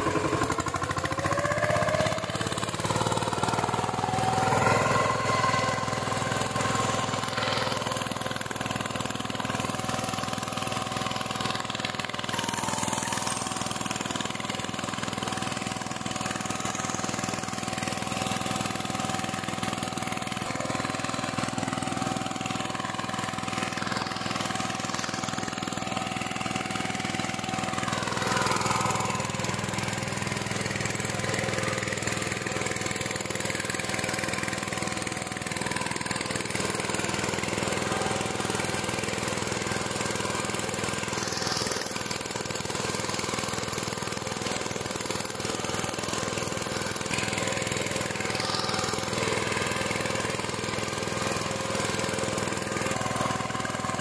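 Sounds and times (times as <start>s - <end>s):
diesel tiller engine running: 0.0s - 54.0s.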